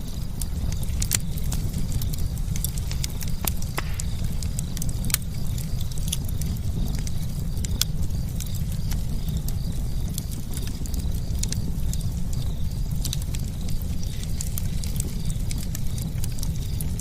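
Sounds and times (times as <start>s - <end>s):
burning wood crackling and popping: 0.0s - 17.0s
low sound of flames: 0.0s - 17.0s.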